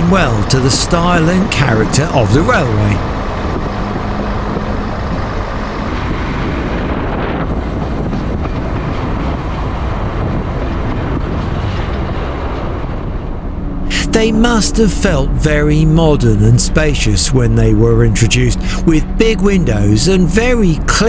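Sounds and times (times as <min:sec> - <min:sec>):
rush of wind: 0:00.0 - 0:21.0
train running noise: 0:00.0 - 0:21.0.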